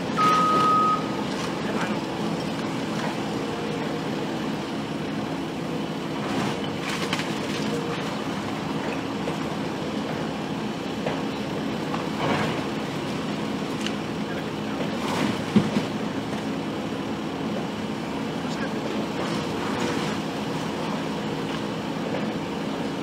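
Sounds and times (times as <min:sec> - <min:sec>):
demolition machine engine hum: 0:00.0 - 0:23.0.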